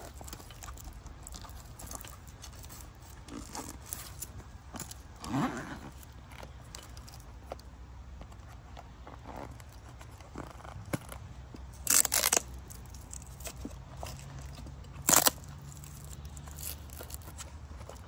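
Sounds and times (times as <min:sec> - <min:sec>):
velcro straps ripping: 0:00.0 - 0:07.2, 0:09.5 - 0:18.0
handling rustles: 0:00.0 - 0:18.0.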